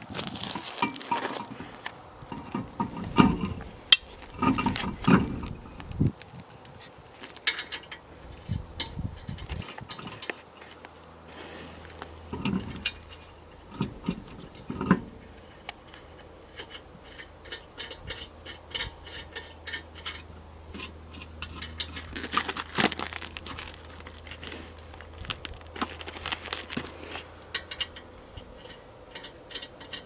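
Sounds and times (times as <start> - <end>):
hand tools clicking on lug nuts: 0.6 - 30.0.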